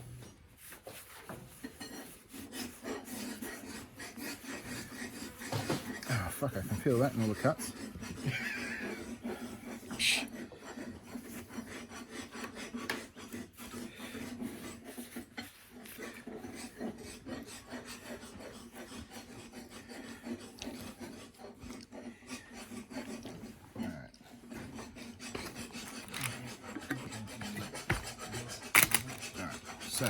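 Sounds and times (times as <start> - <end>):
scrubbing rubber surface: 0.6 - 12.0, 13.1 - 30.0.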